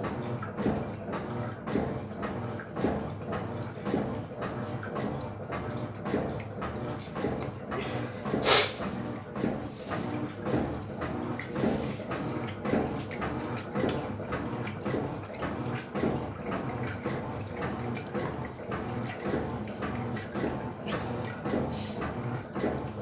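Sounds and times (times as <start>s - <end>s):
washing machine motor humming: 0.0s - 23.0s.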